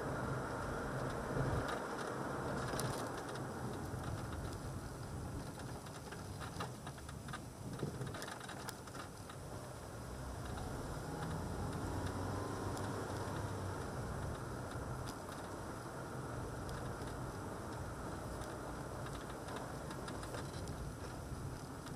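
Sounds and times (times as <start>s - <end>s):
car road and engine noise: 0.0s - 21.9s.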